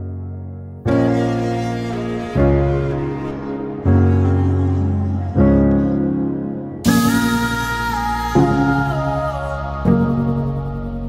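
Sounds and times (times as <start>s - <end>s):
sustained music chords: 0.8s - 11.0s.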